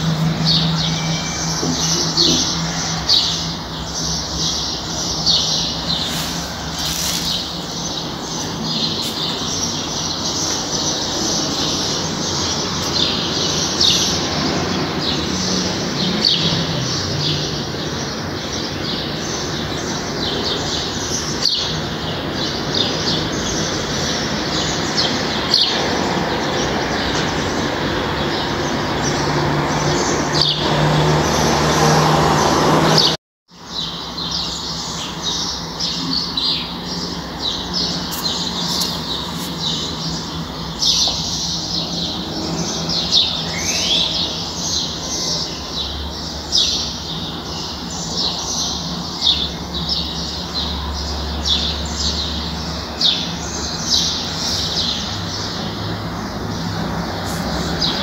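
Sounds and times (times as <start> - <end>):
small birds chirping: 0.0 - 29.2, 32.9 - 58.0
steady background noise: 0.0 - 33.0, 33.6 - 58.0.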